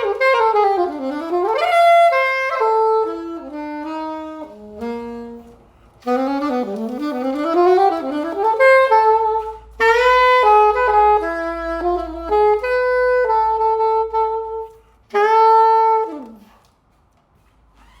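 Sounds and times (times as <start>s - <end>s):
solo clarinet: 0.0s - 16.8s.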